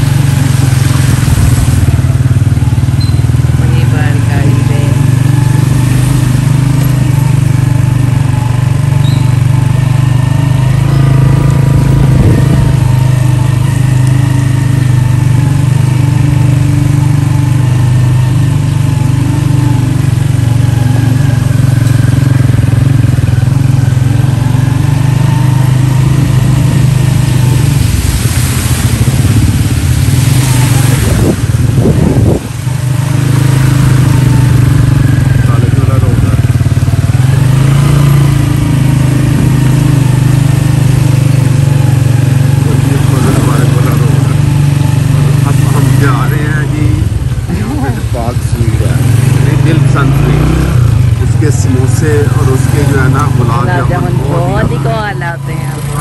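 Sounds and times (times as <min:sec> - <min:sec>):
rushing water noise: 0:00.0 - 0:56.0
small motorcycle engine humming: 0:00.0 - 0:56.0.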